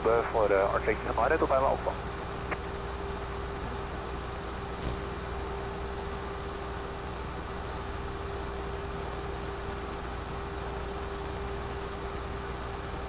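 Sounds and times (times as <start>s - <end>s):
constant hum tone: 0.0s - 13.0s.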